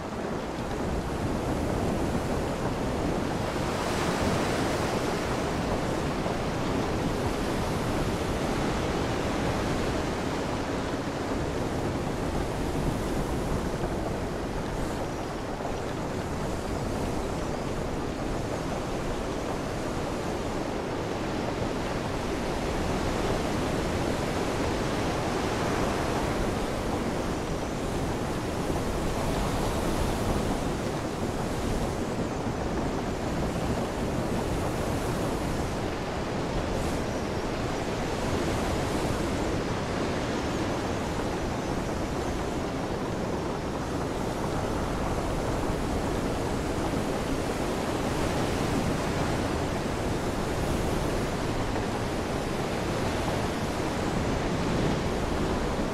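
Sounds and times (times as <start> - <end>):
ocean waves: 0.0 - 55.9
wind at sea: 0.0 - 55.9.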